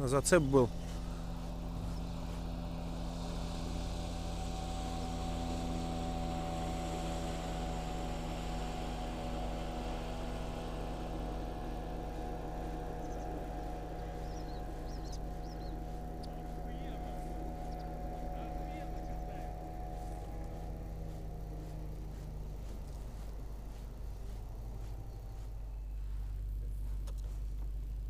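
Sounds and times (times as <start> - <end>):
outboard motor droning: 0.0 - 28.0.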